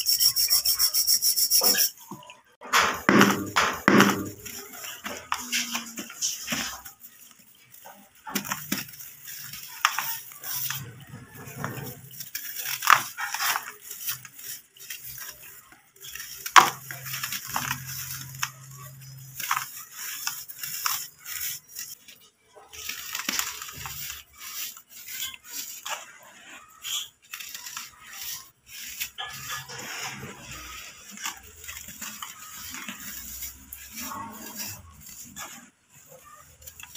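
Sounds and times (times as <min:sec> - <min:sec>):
dust and crumbs trickling: 0:00.0 - 0:36.9.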